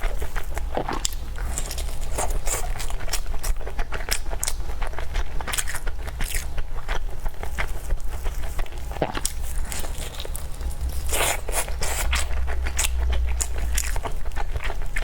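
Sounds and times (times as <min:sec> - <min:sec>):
chewing with crisp crunches: 0:00.0 - 0:15.0.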